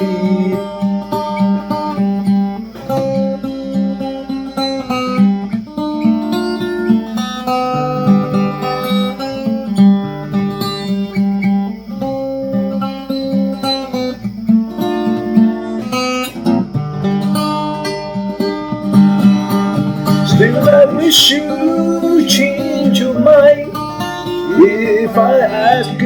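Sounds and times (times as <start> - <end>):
acoustic guitar strummed and picked: 0.0 - 26.0.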